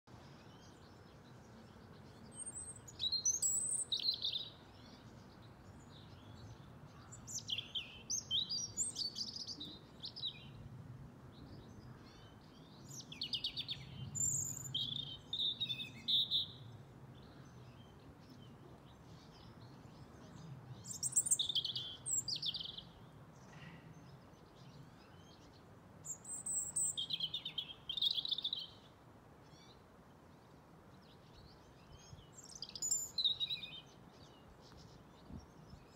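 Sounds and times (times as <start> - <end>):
robin singing: 0.1 - 10.7, 11.3 - 35.9
low background hiss: 0.1 - 35.9.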